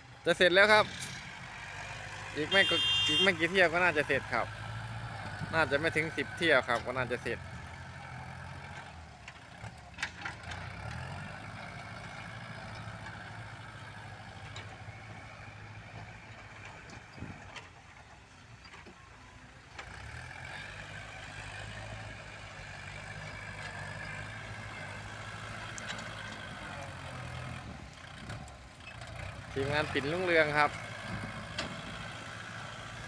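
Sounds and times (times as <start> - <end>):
tractor diesel engine working: 0.0 - 33.0.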